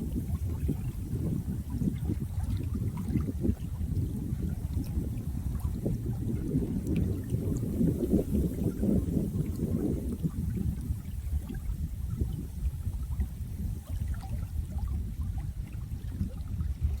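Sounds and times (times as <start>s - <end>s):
water flowing: 0.0s - 17.0s.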